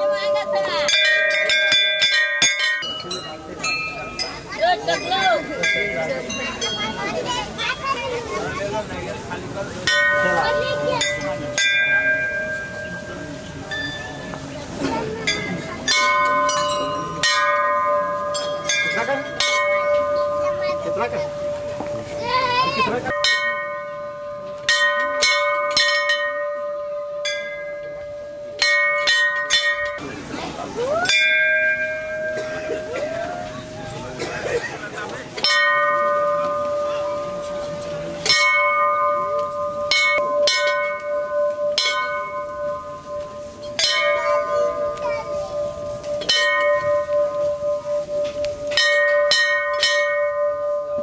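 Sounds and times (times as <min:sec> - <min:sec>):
metal temple bell clanging: 0:00.0 - 0:51.0.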